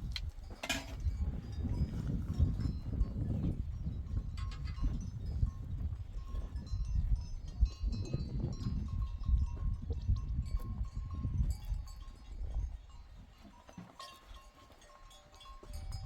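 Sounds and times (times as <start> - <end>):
livestock bells tinkling: 0.4 - 16.0.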